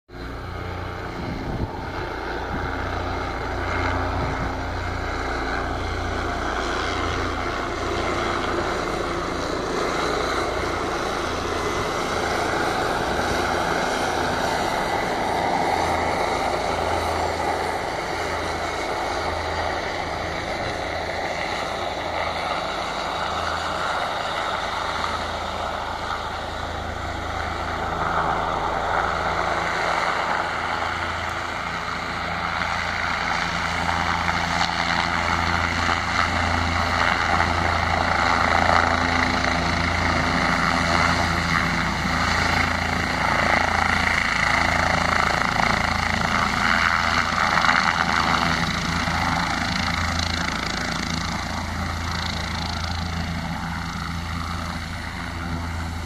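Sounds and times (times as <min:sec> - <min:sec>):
helicopter turbine and rotor: 0:00.1 - 0:56.0.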